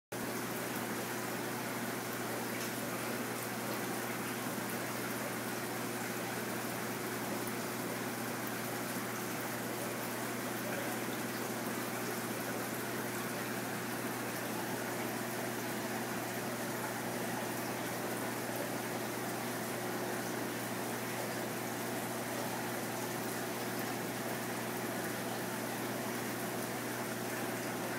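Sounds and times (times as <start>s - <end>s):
aquarium water bubbling: 0.2s - 27.9s.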